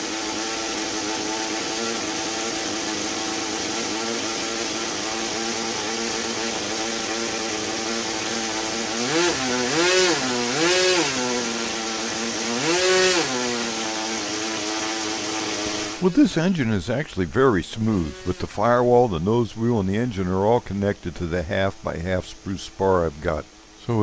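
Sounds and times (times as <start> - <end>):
model aircraft engine revving: 0.0 - 24.0.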